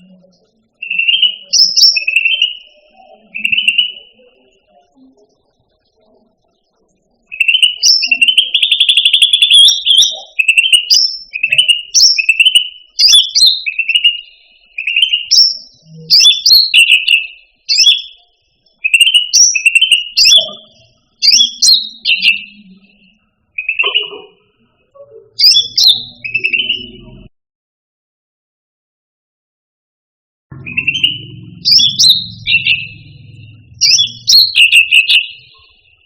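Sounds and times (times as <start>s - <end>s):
bird singing whistled phrases: 0.0s - 4.6s, 7.2s - 24.4s, 25.1s - 27.3s, 30.5s - 36.0s
bird trill: 0.0s - 27.3s, 30.5s - 36.0s.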